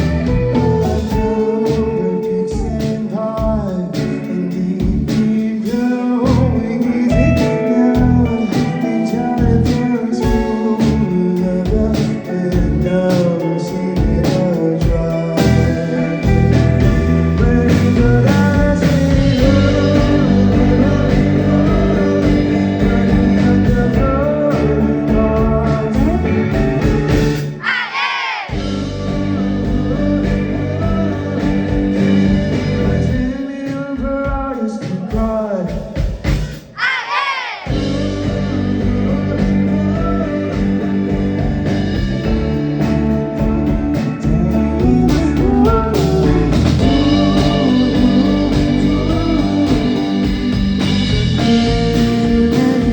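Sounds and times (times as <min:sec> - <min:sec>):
person singing: 0:00.0 - 0:26.7, 0:27.6 - 0:36.0, 0:36.8 - 0:42.3, 0:43.2 - 0:52.9
live rock band playing: 0:00.0 - 0:36.7, 0:37.7 - 0:52.9
guitar: 0:00.0 - 0:52.9.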